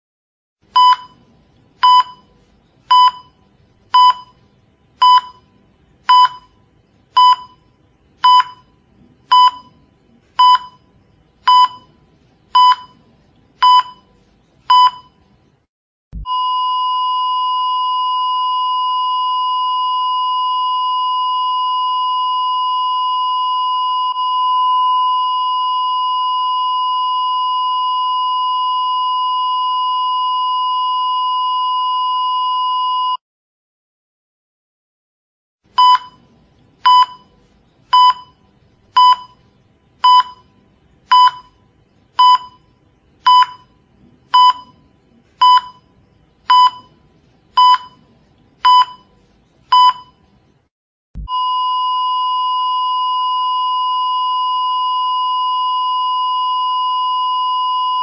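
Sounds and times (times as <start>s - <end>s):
heart monitor beeping: 0.7s - 4.4s, 5.0s - 6.6s, 7.2s - 13.0s, 13.6s - 15.2s, 16.2s - 33.2s, 35.8s - 41.6s, 42.2s - 47.0s, 47.6s - 50.2s, 51.2s - 58.0s.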